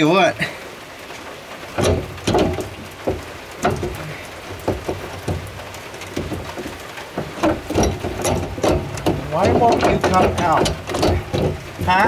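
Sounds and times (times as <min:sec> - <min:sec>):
steady rain: 0:00.0 - 0:12.0
metal gear clunks and knocks: 0:01.8 - 0:12.0.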